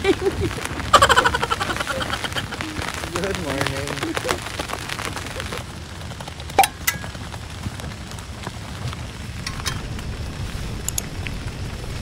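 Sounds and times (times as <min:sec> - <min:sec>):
ticks and crackles: 0:00.0 - 0:12.0
wind rumbling on microphone: 0:00.0 - 0:12.0.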